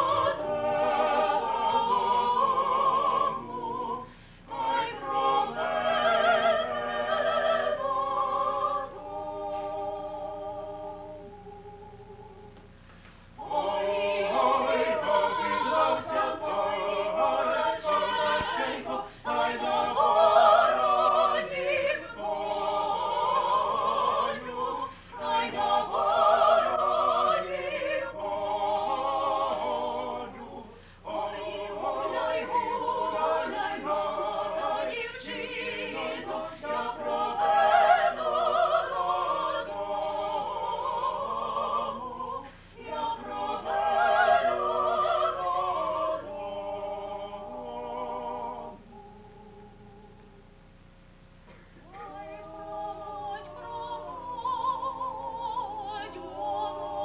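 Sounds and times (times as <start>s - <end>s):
men and women singing in parts: 0.0s - 12.7s, 13.4s - 50.4s, 51.8s - 57.0s.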